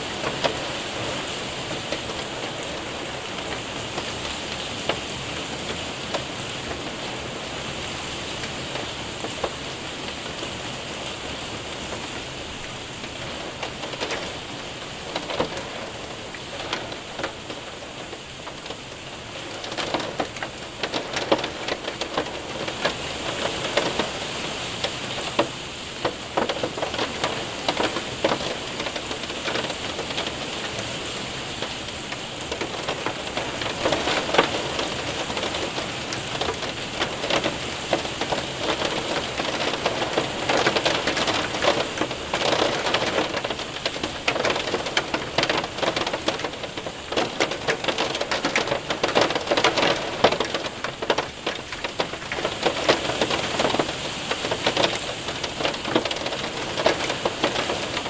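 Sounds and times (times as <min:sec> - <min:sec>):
hailstones clicking on window: 0:00.0 - 0:58.0
heavy rain hissing: 0:00.0 - 0:58.0.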